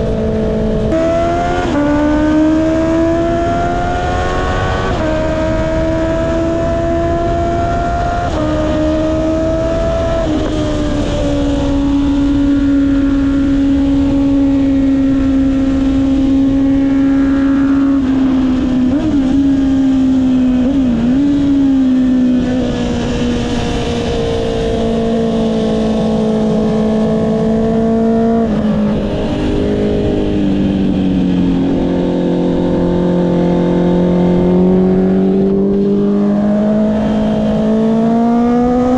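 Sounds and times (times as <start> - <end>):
motorcycle engine riding: 0.0 - 38.9
wind noise on microphone: 0.0 - 38.9.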